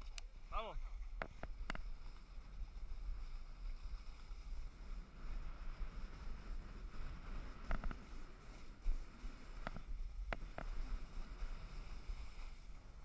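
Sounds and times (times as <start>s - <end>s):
wind buffeting camera: 0.0s - 13.0s
snow scraping underfoot: 0.3s - 13.0s.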